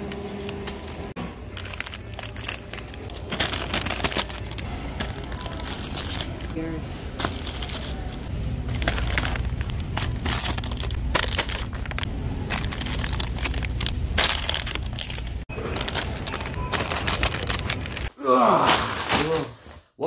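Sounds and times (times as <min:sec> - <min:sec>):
plastic wrappers crinkling: 0:00.1 - 0:18.1
low rumble: 0:00.8 - 0:18.1.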